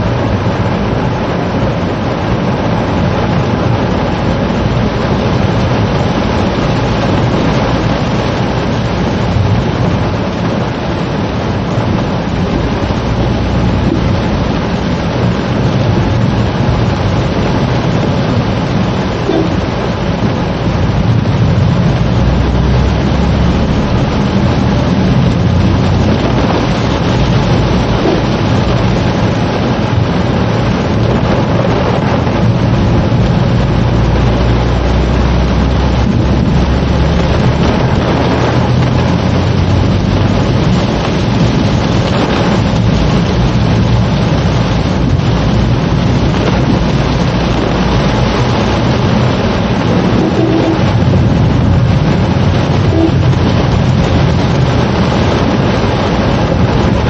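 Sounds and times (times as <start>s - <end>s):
car engine and tyre noise: 0.0s - 57.0s
heavy rain on car roof: 0.0s - 57.0s.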